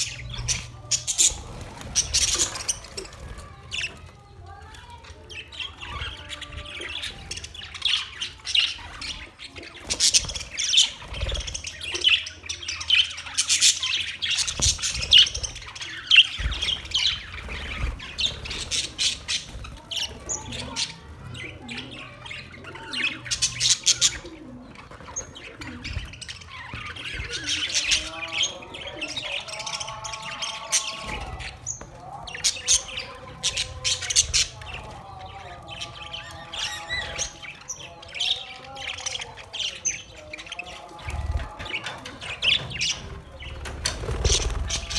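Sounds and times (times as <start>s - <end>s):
budgerigars chirping and squawking: 0.0s - 44.9s.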